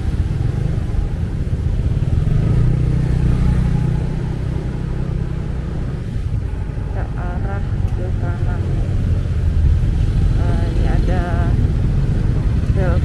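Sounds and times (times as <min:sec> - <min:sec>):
motorcycle engine at low speed: 0:00.0 - 0:13.0
rumble of surrounding traffic: 0:00.0 - 0:13.0.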